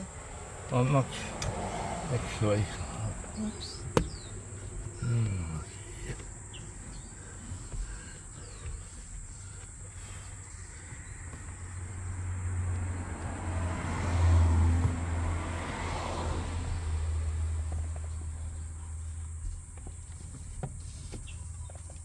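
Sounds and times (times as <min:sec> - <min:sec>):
vehicle passing by: 0:00.0 - 0:19.6.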